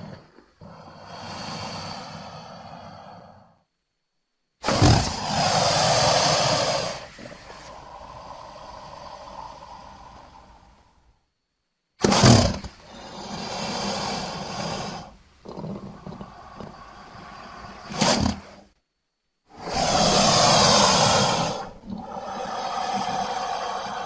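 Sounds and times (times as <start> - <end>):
crocodile hissing and growling: 0.0 - 3.6, 4.6 - 11.2, 12.0 - 18.8, 19.5 - 24.0.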